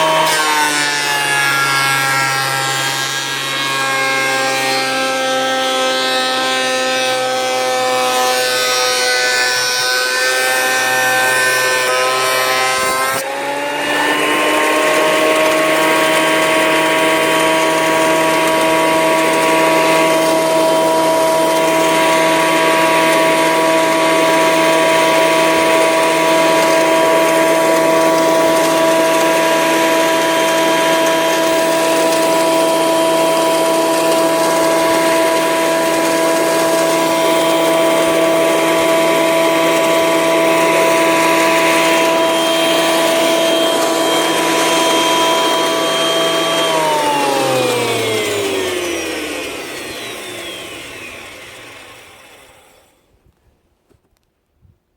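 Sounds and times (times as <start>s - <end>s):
planer cutter hissing on wood: 0.0s - 53.2s
electric planer motor whine: 0.0s - 53.4s.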